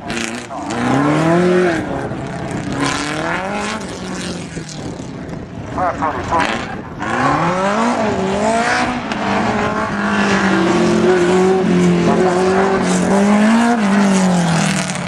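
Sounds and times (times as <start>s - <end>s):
racing car engine running hard: 0.0s - 15.0s.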